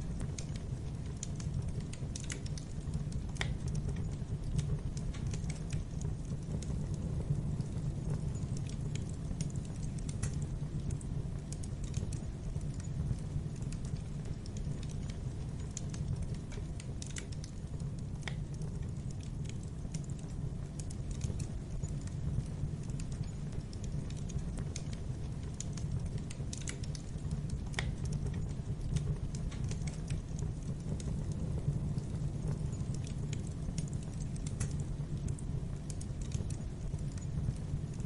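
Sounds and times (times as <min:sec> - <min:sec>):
low rumble of burning logs: 0:00.0 - 0:38.0
wood fire crackling: 0:00.0 - 0:38.0.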